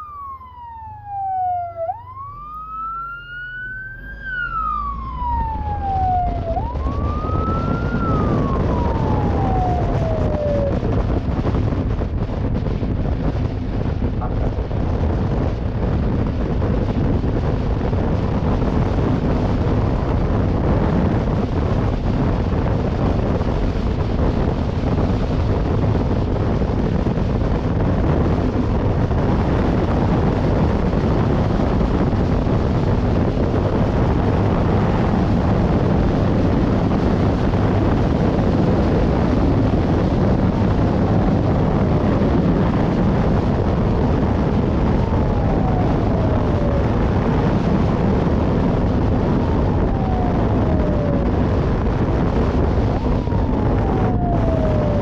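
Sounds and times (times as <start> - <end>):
faint siren wail: 0.0 - 12.7, 14.1 - 55.0
motorcycle and road noise: 0.0 - 55.0
wind buffeting microphone: 0.0 - 55.0.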